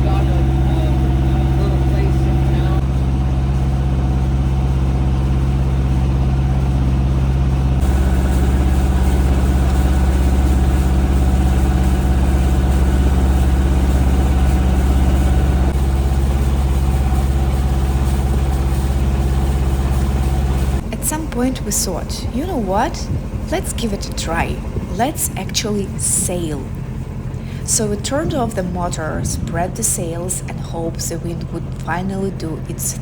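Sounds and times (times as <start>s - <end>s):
boat motor droning: 0.0s - 33.0s.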